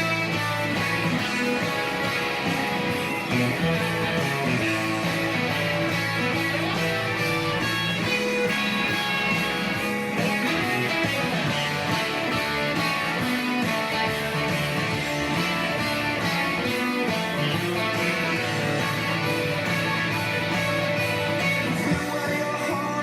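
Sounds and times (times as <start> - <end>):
rock guitar solo: 0.0 - 23.0.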